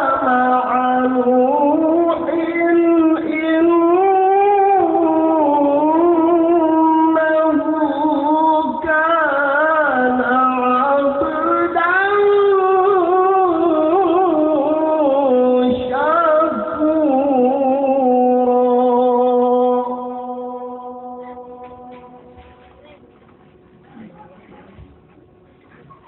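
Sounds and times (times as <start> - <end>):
person chanting melodic recitation: 0.0 - 22.4.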